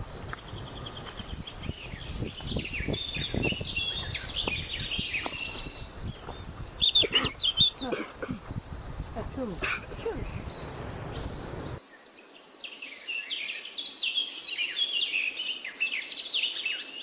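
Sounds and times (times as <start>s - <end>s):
small birds chirping and twittering: 0.0s - 17.0s.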